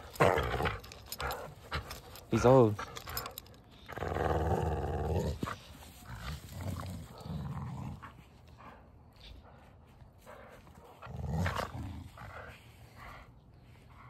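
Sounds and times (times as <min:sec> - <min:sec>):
dogs growling: 0:00.0 - 0:08.8, 0:10.3 - 0:13.3.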